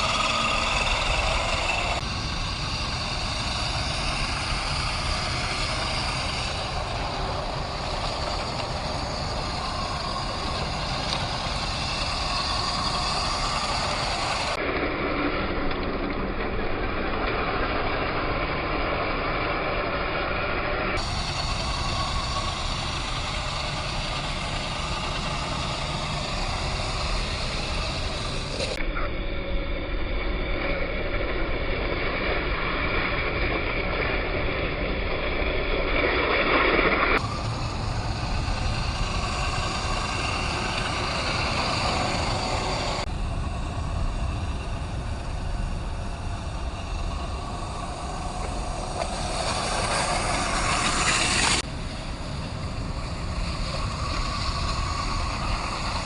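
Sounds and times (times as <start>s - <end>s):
electric motor and gears whining: 0.0s - 56.0s.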